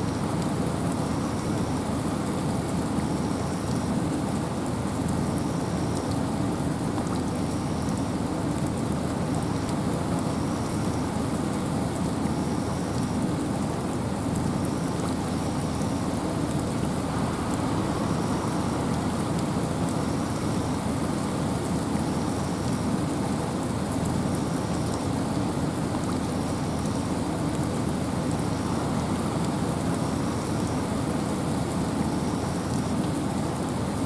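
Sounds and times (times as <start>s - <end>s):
rain falling through trees: 0.0s - 34.0s
wind: 0.0s - 34.0s.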